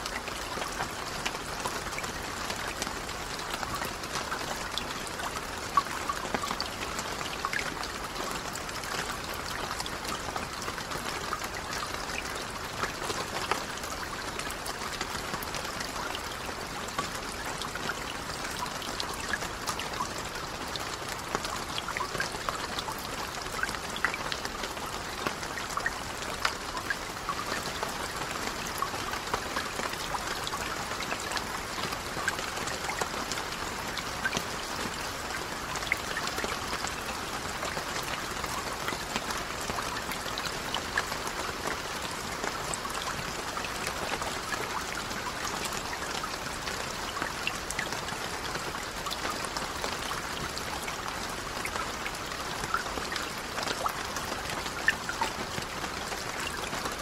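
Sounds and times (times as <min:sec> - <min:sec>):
rain hissing on a lake: 0:00.0 - 0:57.0.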